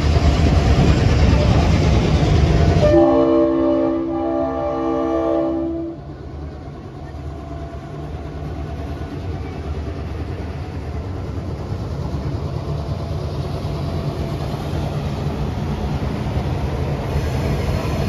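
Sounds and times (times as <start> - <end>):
diesel locomotives rumbling: 0.0 - 18.0.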